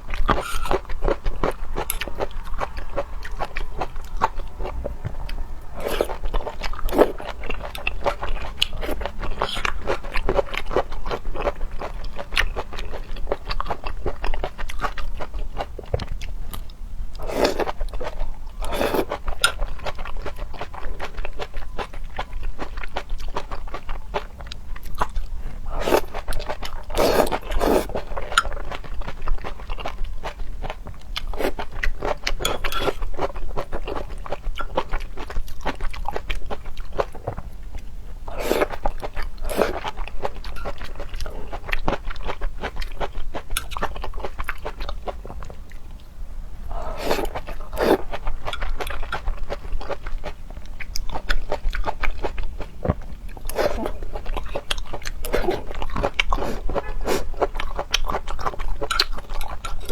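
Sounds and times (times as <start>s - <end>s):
wet chewing and crunching: 0.0s - 46.1s, 46.7s - 59.9s.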